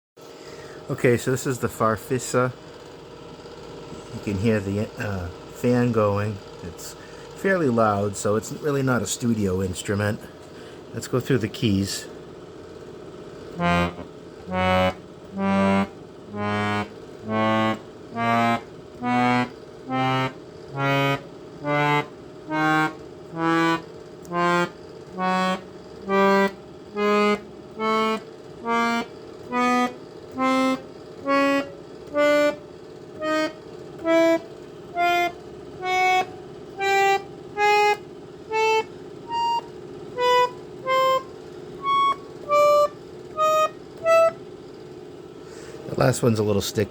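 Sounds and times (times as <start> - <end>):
cooling fan humming: 0.2 - 46.9
reedy chord organ notes: 0.5 - 2.6, 3.8 - 12.0, 13.5 - 44.5.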